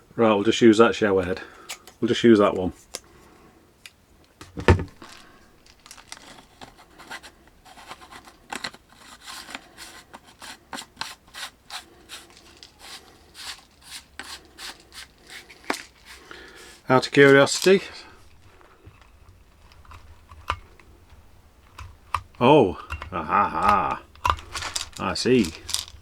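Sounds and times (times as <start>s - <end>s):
plastic parts clicking and scraping: 1.5s - 3.1s, 3.8s - 26.0s.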